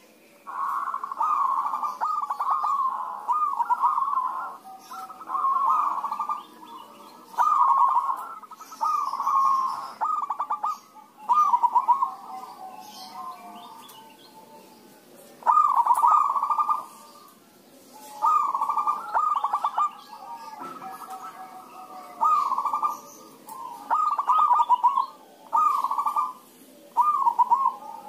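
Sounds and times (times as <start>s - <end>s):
doves cooing: 0.0s - 14.6s, 15.4s - 28.0s.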